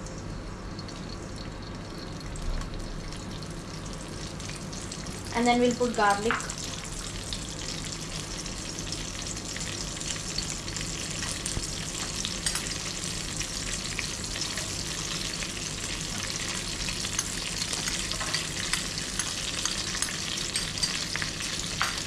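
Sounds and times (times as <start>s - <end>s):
leaves sizzling in hot oil: 0.2s - 22.0s.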